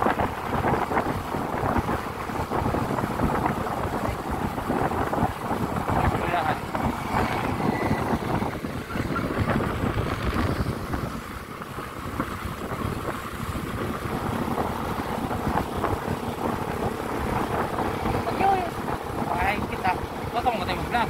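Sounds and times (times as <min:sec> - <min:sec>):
moving vehicle rushing noise: 0:00.0 - 0:21.0
wind buffeting microphone: 0:00.0 - 0:21.0.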